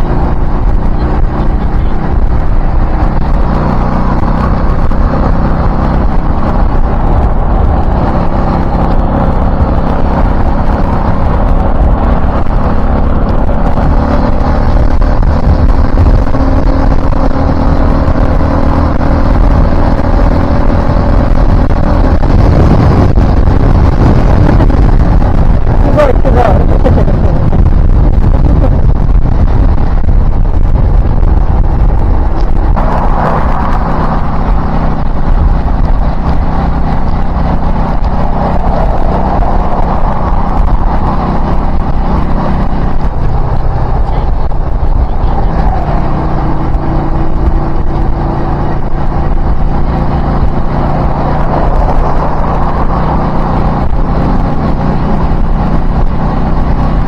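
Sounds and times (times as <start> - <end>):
car engine: 0.0 - 57.0
road noise: 0.0 - 57.0.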